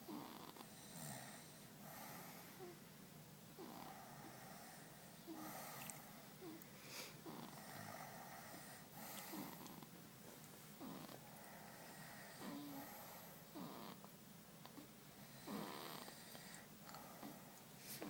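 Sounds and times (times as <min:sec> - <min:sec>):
baby snoring softly: 0:00.0 - 0:02.8, 0:03.6 - 0:09.9, 0:10.8 - 0:18.0.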